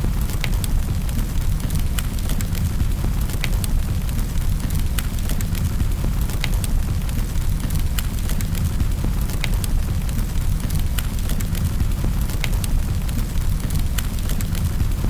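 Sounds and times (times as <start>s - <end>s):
fire popping and snapping: 0.0s - 15.0s
low rumble of burning: 0.0s - 15.0s.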